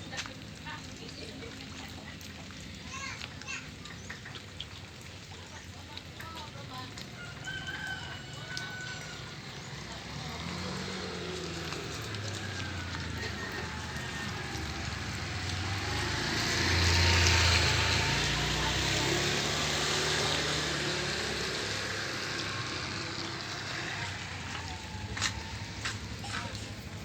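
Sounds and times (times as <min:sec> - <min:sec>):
hiss of light drizzle: 0:00.0 - 0:27.0
vehicle passing on wet road: 0:00.0 - 0:27.0.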